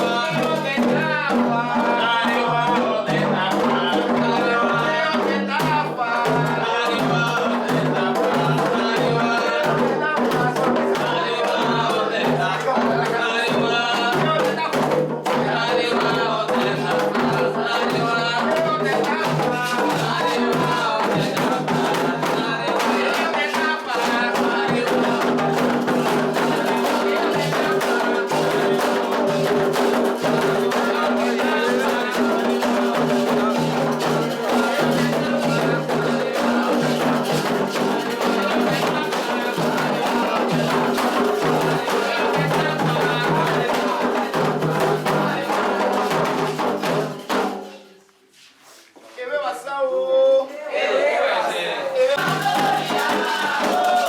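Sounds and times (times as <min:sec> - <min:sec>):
hand drums fast rhythm: 0:00.0 - 0:47.8, 0:52.1 - 0:54.0
group singing: 0:00.0 - 0:54.0.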